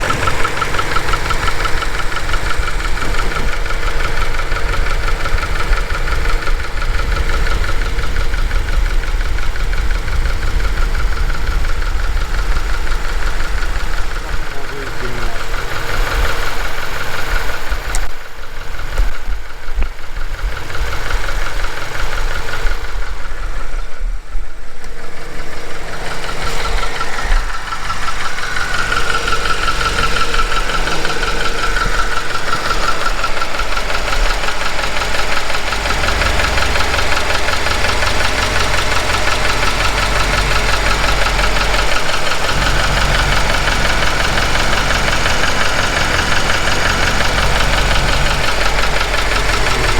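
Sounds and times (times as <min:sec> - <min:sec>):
car engine idling: 0:00.0 - 0:49.9
engine clicking and tapping: 0:00.0 - 0:49.9.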